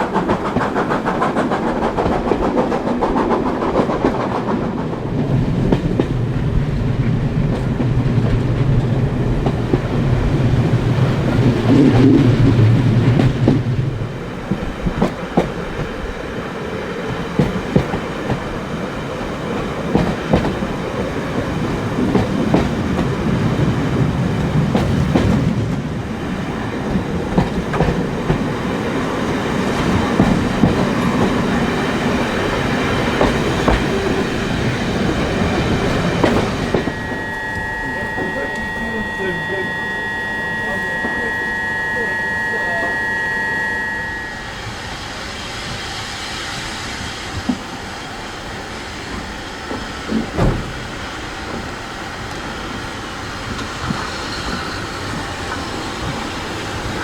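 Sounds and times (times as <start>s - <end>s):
train wheels clicking on rails: 0.0s - 39.7s, 44.7s - 57.0s
train rumble: 0.0s - 57.0s.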